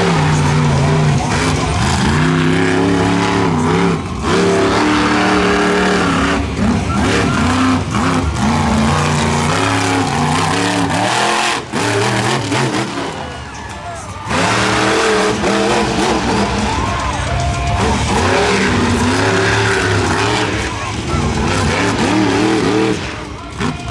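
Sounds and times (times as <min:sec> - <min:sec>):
monster truck engine revving: 0:00.0 - 0:23.9.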